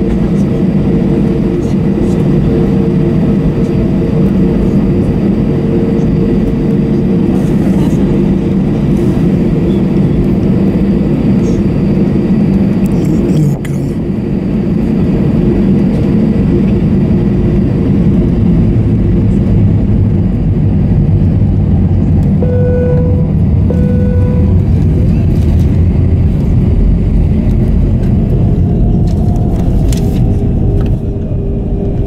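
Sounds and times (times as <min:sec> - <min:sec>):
jet engine cabin rumble: 0:00.0 - 0:32.0.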